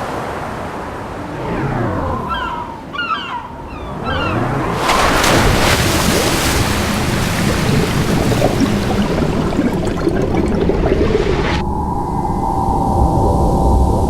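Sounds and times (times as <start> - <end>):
ocean waves breaking: 0.0 - 11.6.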